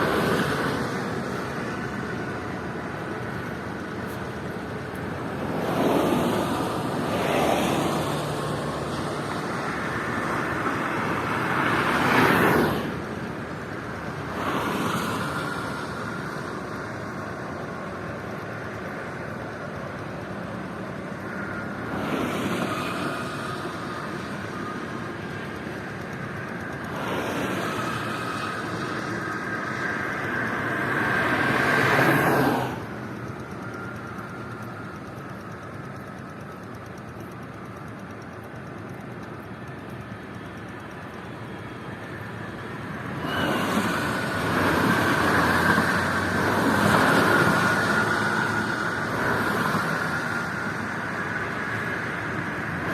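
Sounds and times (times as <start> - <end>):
highway traffic passing: 0.0 - 52.9.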